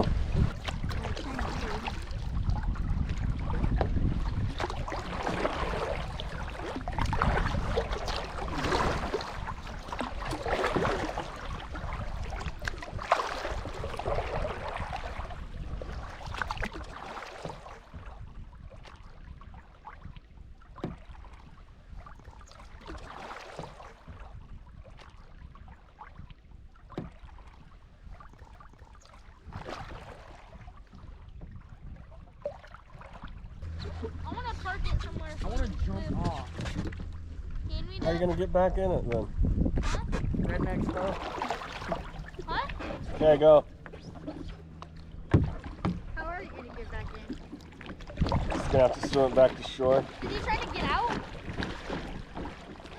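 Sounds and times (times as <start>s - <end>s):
paddle strokes splashing in water: 0.0s - 52.9s
water lapping: 0.0s - 52.9s.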